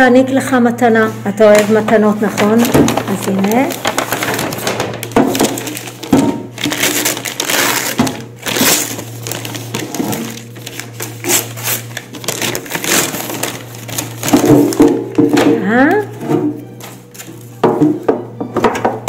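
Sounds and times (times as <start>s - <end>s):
wrapping paper tearing and crumpling: 1.5s - 15.2s, 15.9s - 17.6s.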